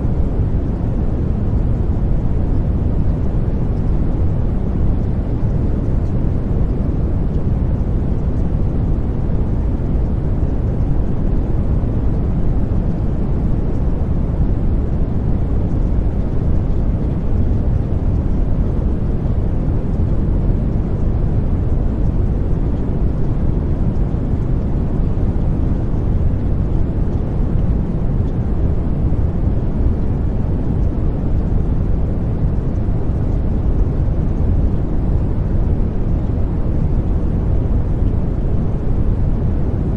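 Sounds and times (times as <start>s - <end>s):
low rumbling noise: 0.0s - 39.9s.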